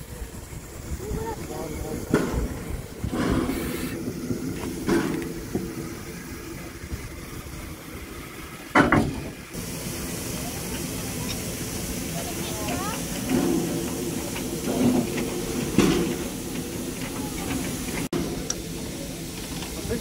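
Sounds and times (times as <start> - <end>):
steam hiss: 0.0 - 20.0
steam locomotive rumble: 0.0 - 20.0.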